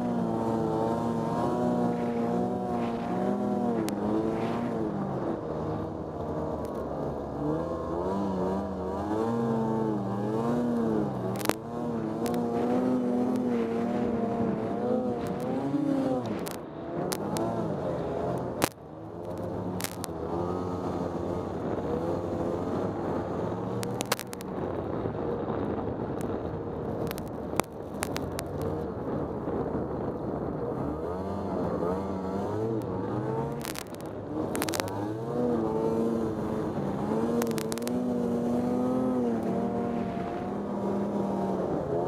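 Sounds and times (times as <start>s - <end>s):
snowmobile engine under load: 0.0s - 42.0s.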